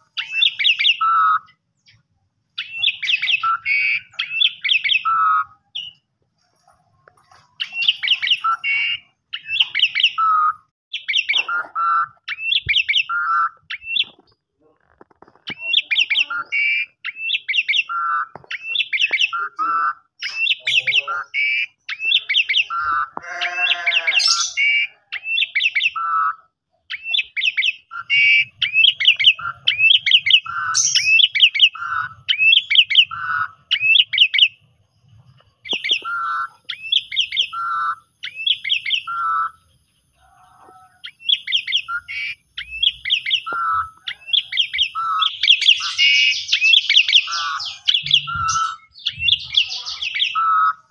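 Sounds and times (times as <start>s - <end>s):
starling singing: 0.0s - 50.9s
low rough bird call: 2.6s - 50.9s.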